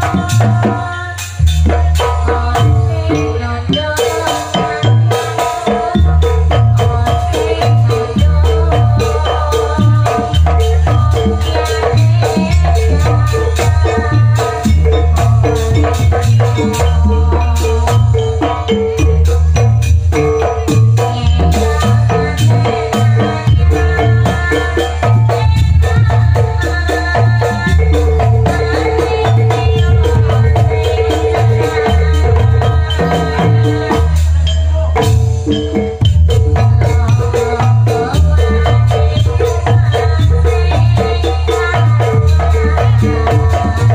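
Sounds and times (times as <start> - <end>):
gamelan ensemble playing: 0.0 - 43.9
hand drums: 0.0 - 43.9
pot gongs and metallophones: 1.4 - 43.9.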